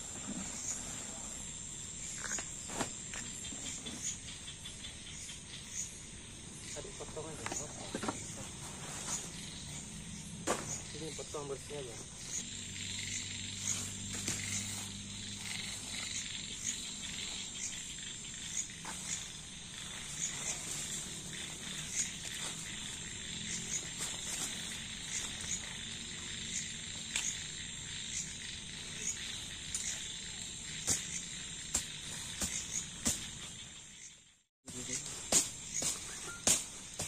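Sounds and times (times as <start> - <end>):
insects and frogs chorus: 0.0 - 37.0.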